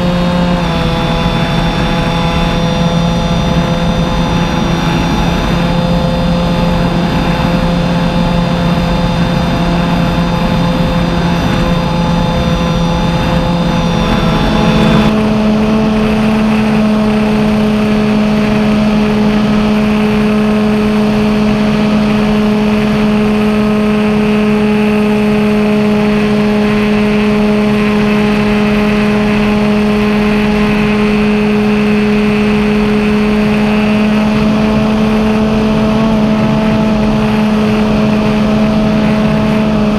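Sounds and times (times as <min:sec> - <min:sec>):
model plane motor running: 0:00.0 - 0:39.9.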